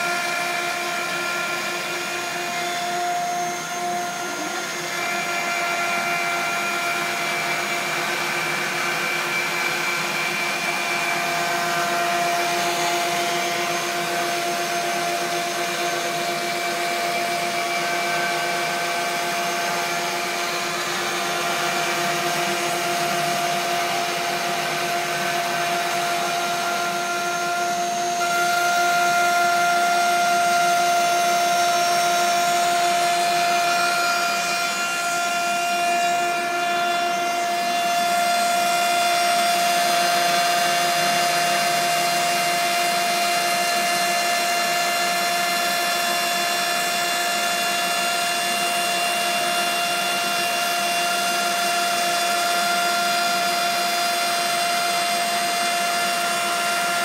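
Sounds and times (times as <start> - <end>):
power tool motor whining: 0.0 - 57.0.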